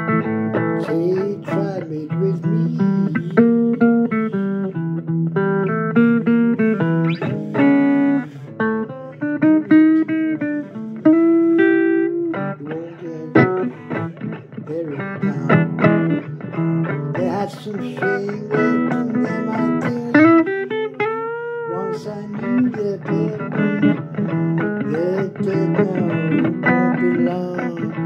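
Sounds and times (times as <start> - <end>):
blues guitar picking: 0.0 - 28.0.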